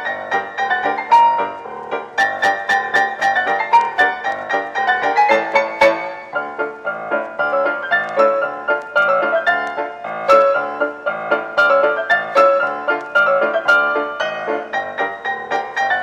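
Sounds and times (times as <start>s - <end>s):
instrumental music with struck notes: 0.0s - 16.0s.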